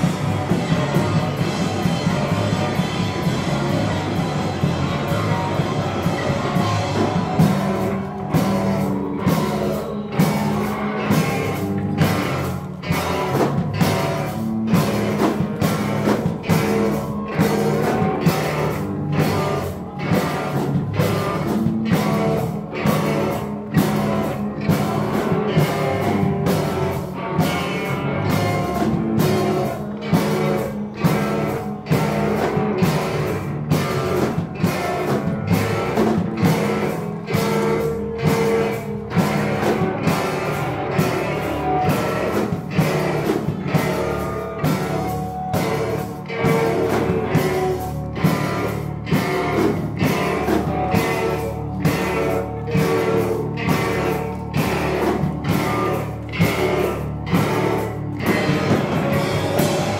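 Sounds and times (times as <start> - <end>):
drums beating steadily: 0.0 - 59.9
live rock band playing: 0.0 - 59.9.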